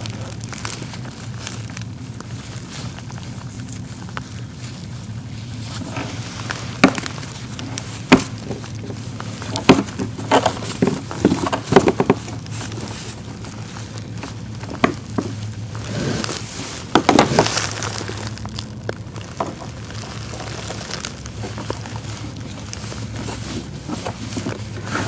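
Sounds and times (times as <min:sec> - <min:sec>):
rope rubbing against hull: 0:00.0 - 0:25.0
steady low hum: 0:00.0 - 0:25.0.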